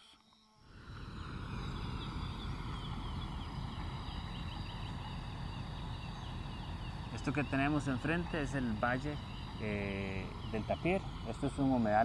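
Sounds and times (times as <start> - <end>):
bird chirps: 0.0 - 12.0
insect hum: 0.0 - 12.0.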